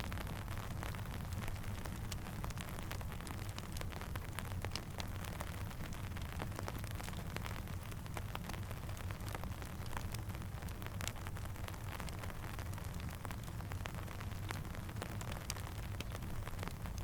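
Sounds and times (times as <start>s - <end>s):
sharp ticks of raindrops: 0.0s - 17.0s
steady rainfall: 0.0s - 17.0s.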